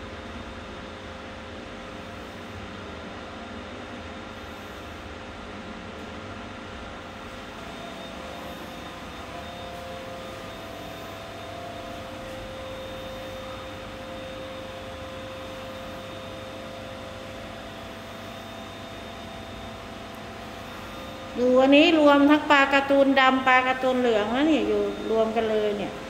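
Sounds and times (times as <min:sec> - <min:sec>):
aquarium equipment humming: 0:00.0 - 0:26.0.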